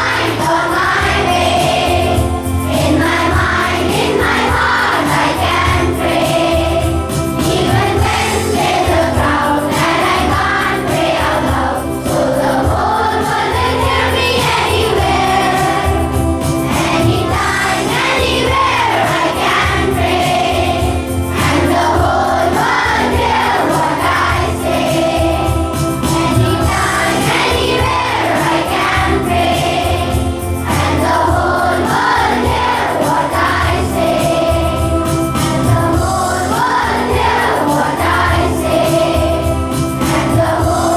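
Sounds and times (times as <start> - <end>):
group singing prayer song: 0.0 - 40.9
instrumental accompaniment: 0.0 - 40.9.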